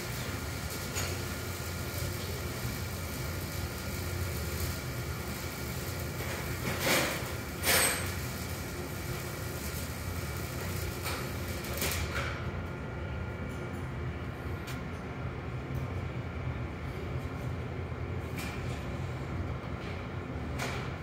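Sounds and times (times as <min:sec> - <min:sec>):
workshop machinery hum: 0:00.0 - 0:21.0.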